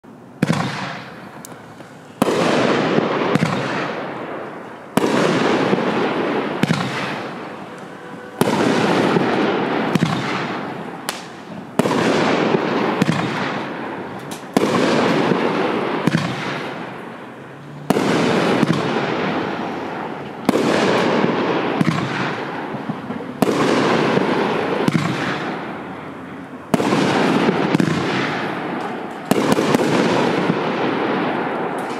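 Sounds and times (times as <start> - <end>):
fireworks shots firing: 0.3 - 31.9
crackling pops of fireworks: 0.4 - 31.9.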